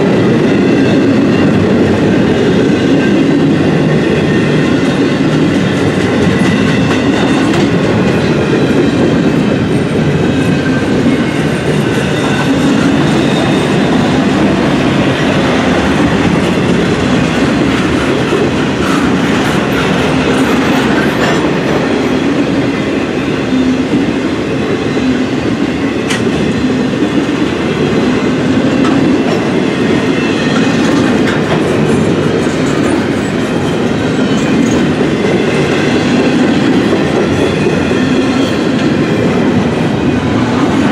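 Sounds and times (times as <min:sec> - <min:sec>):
train wheels clattering on rail: 0:00.0 - 0:40.9.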